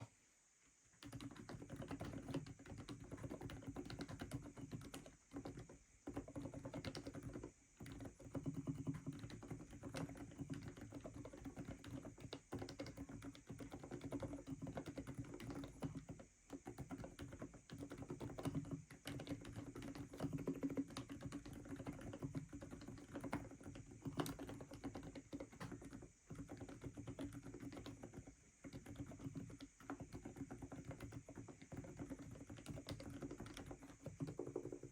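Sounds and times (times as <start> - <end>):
mechanical keyboard typing: 1.0 - 34.9.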